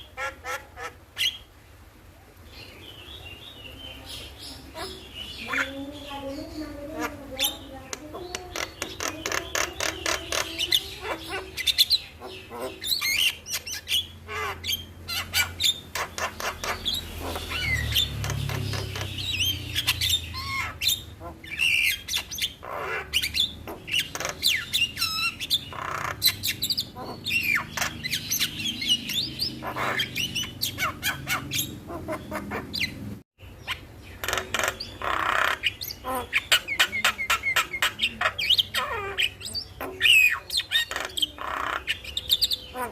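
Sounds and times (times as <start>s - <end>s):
myna bird chattering song: 0.0s - 1.5s, 2.4s - 42.9s.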